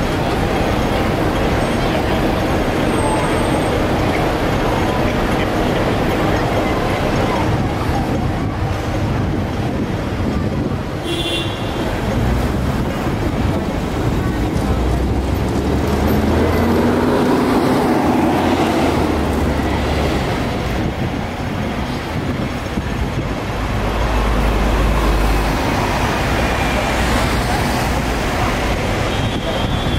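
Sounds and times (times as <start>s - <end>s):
vehicles passing: 0.0s - 29.9s.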